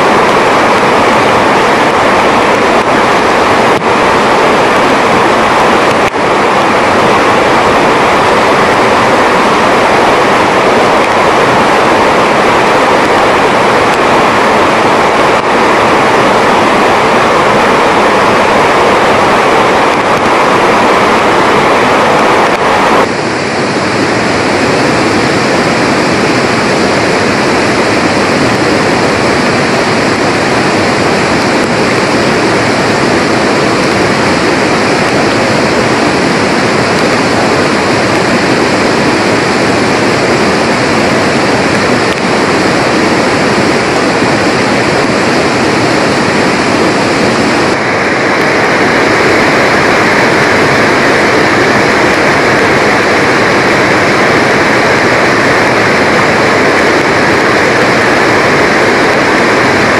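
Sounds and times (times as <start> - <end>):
river rushing loudly: 0.0 - 59.9.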